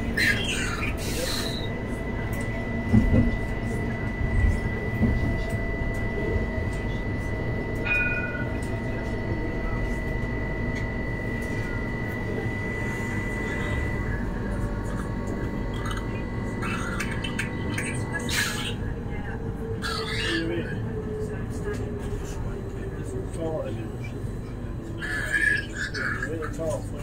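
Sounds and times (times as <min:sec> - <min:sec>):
tram wheels rumbling: 0:00.0 - 0:27.0.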